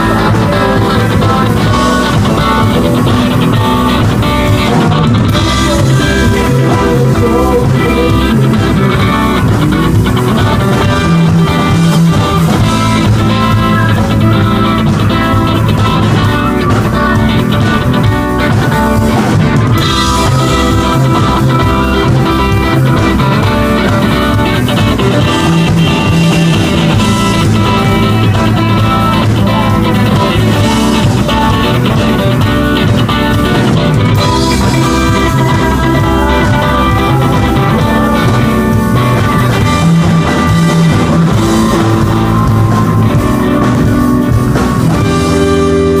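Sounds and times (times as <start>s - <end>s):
bass guitar: 0.0s - 46.0s
drum kit: 0.0s - 46.0s
electric guitar: 0.0s - 46.0s
rock band playing: 0.0s - 46.0s.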